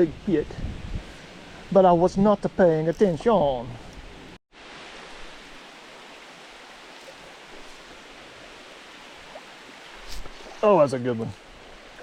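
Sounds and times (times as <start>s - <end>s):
running creek water: 0.0s - 12.0s.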